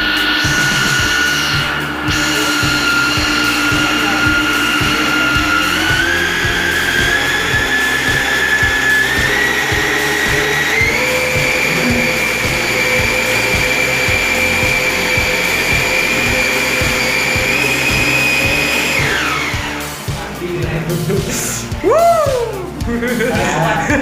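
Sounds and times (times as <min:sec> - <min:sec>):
small electric motor whine: 0:00.0 - 0:20.0.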